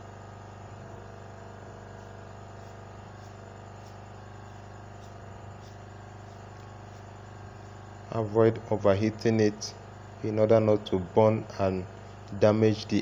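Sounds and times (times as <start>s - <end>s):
hot air station hum and hiss: 0.0s - 13.0s.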